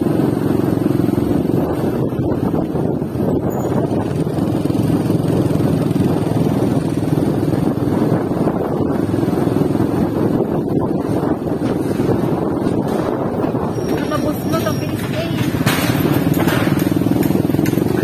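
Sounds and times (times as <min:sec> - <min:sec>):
vehicle engine drone: 0:00.0 - 0:18.0.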